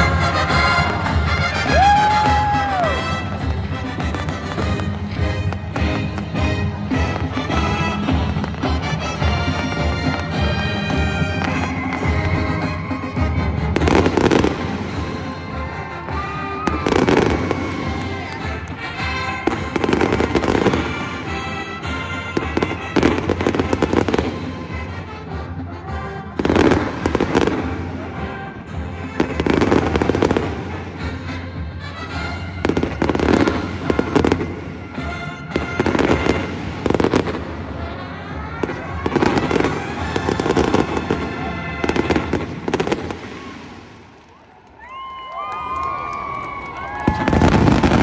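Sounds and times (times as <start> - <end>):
fireworks bursting with crackling: 0.0 - 48.0
music playing: 0.0 - 48.0.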